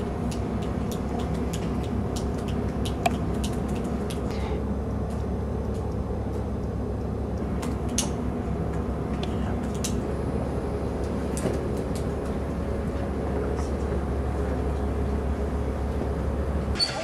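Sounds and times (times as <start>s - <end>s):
low rumble of background noise: 0.0s - 17.0s.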